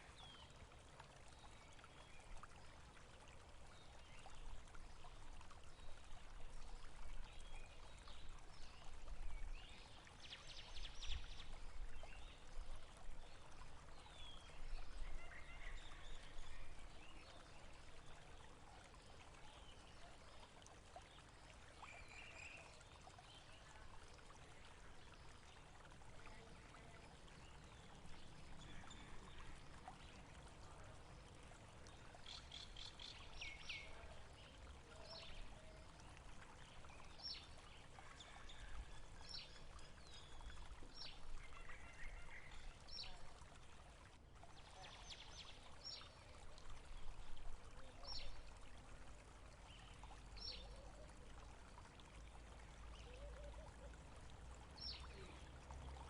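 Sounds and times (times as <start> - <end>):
faint flowing water: 0.0 - 56.0.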